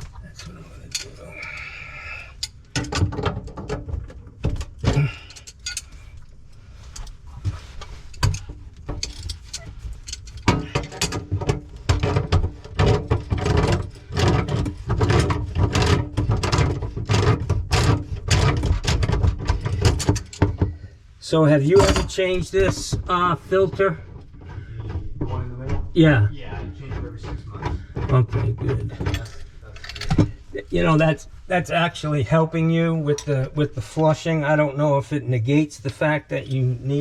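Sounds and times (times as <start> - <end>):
metal tools and fittings clanking: 0.0 - 20.8, 21.6 - 31.3, 32.7 - 34.2.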